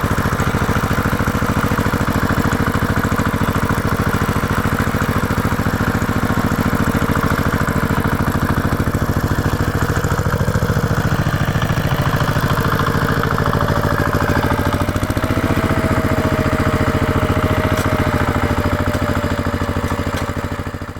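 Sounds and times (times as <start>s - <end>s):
tractor engine idling: 0.0s - 20.9s.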